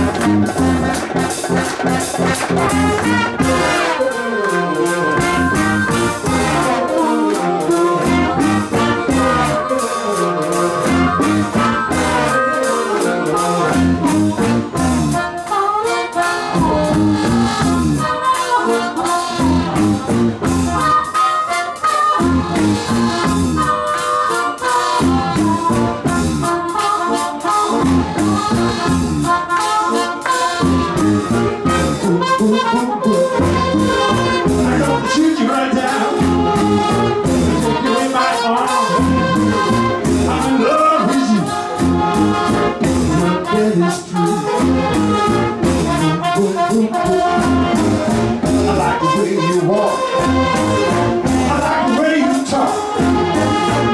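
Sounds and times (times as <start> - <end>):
live brass band music: 0.0 - 53.9.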